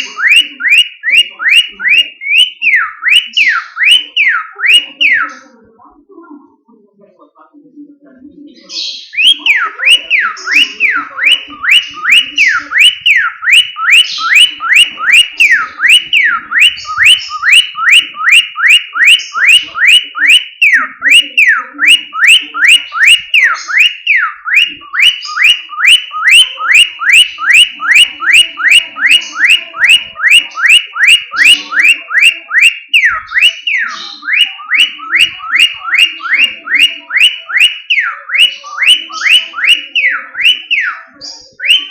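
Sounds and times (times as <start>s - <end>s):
bird whistling car alarm imitation: 0.0s - 5.4s, 8.7s - 41.9s.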